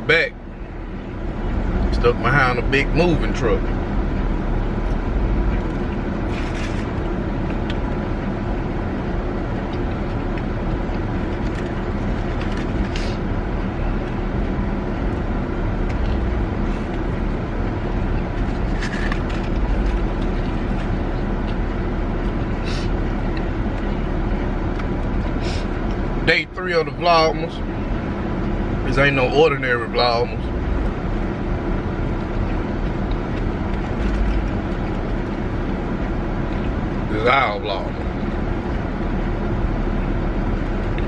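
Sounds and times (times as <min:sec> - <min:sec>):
car engine and road noise: 0:00.0 - 0:41.0.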